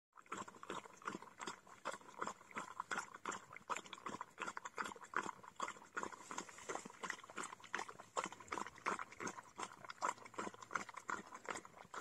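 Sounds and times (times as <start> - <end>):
dog eating from plastic tub: 0.1 - 12.0.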